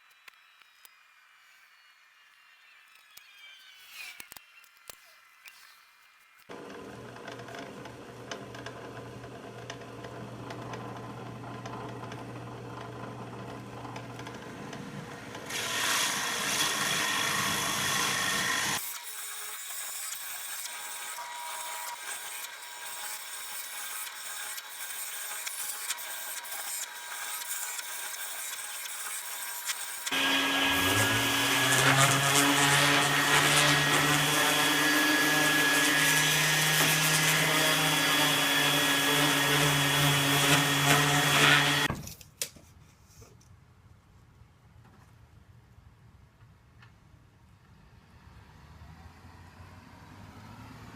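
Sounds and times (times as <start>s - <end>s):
workshop power tools: 0.0s - 42.0s.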